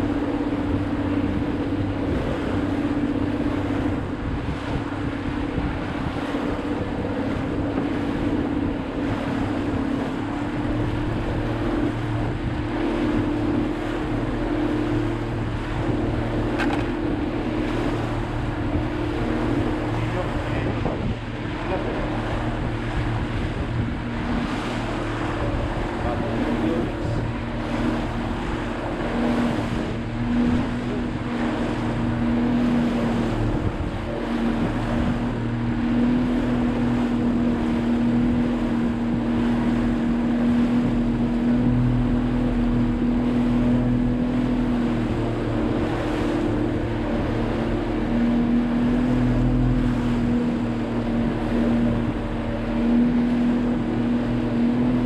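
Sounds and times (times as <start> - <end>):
motorboat engine humming: 0.0 - 55.0
water noise: 0.0 - 55.0
wind: 0.0 - 55.0.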